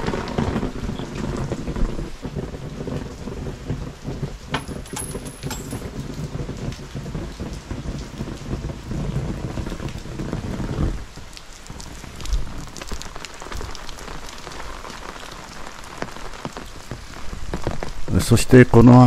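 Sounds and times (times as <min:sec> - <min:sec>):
heavy rain on umbrella: 0:00.0 - 0:19.0.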